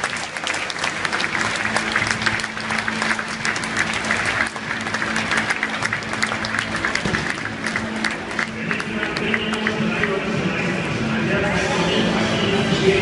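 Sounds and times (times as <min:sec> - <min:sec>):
crowd applauding: 0:00.0 - 0:10.4
music over loudspeakers: 0:00.9 - 0:13.0.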